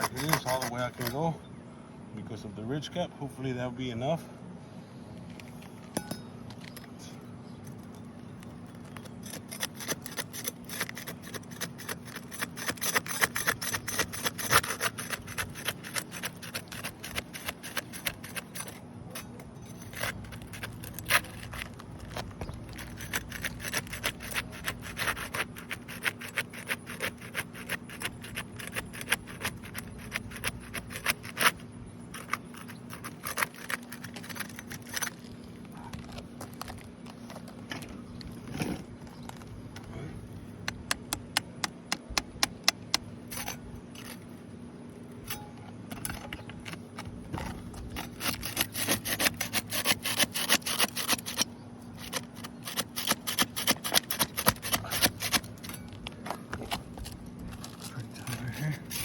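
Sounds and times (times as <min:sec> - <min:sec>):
tool scraping under roof shingles: 0:00.0 - 0:01.3, 0:07.7 - 0:40.5, 0:45.2 - 0:59.0.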